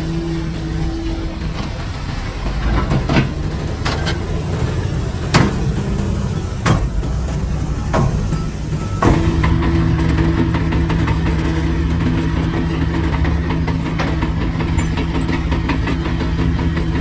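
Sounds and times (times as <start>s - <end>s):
diesel engine running: 0.0s - 17.0s
metallic clanks and knocks: 2.5s - 17.0s.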